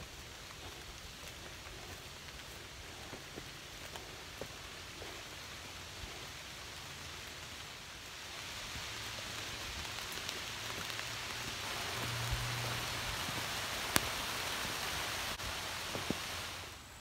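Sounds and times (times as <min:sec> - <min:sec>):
rain falling on leaves: 0:00.0 - 0:17.0.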